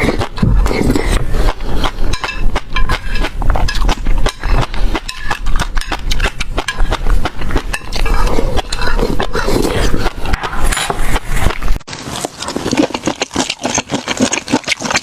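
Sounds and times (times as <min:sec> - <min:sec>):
food being chewed and crunched: 0:00.0 - 0:15.0.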